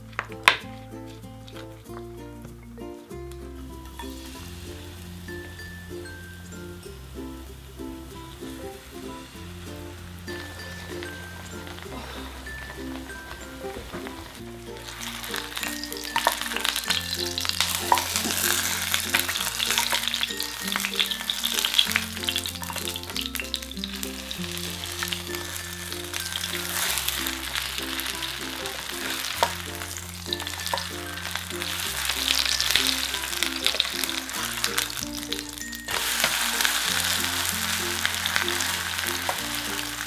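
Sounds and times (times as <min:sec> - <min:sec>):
light background music: 0:00.0 - 0:40.0
pancake sizzling in oil: 0:03.9 - 0:07.0, 0:08.0 - 0:40.0.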